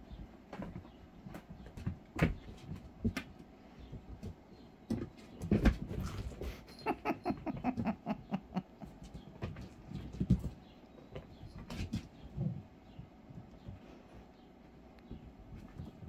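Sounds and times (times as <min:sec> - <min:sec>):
kittens thumping and scuffling: 0:00.0 - 0:16.0.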